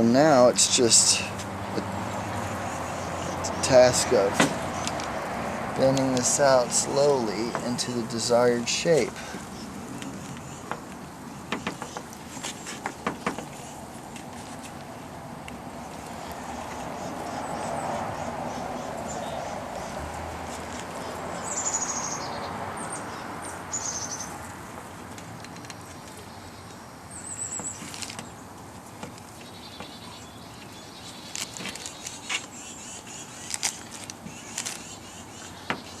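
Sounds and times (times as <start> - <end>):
foliage and wire crackling: 0.0 - 21.8, 27.2 - 36.0.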